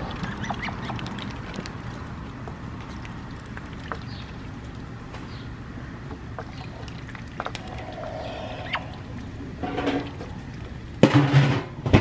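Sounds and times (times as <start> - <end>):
duck dabbling in water: 0.0 - 5.0, 6.1 - 11.0
steady low rumble: 1.0 - 11.0.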